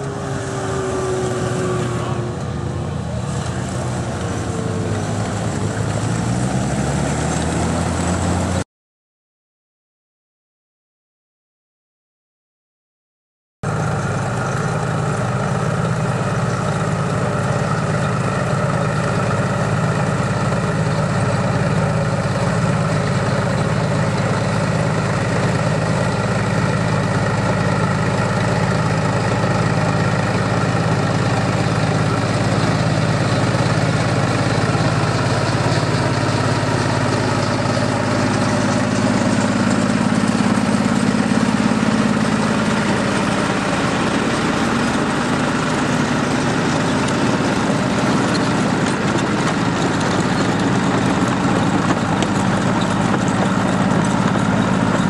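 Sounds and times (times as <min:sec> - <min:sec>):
tractor engine running: 0:00.0 - 0:08.6, 0:13.6 - 0:55.0.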